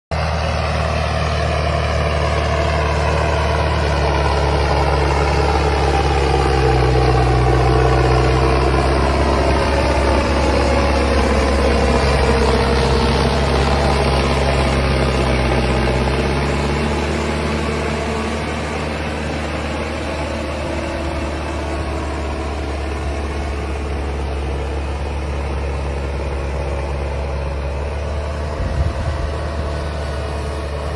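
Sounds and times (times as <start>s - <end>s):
tractor engine running: 0.1s - 30.9s.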